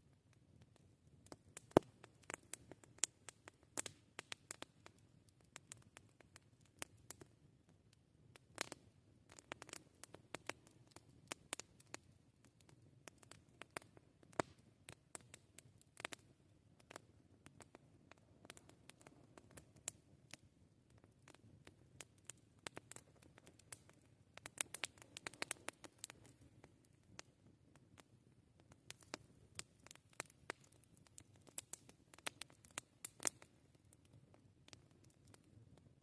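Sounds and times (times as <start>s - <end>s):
campfire crackling: 0.2s - 35.9s.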